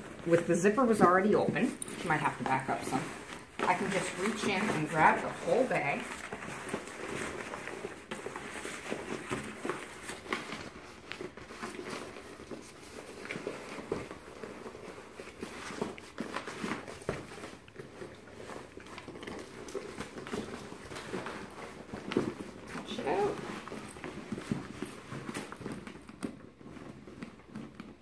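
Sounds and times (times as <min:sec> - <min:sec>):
bag rustling and crinkling: 0:00.0 - 0:28.0.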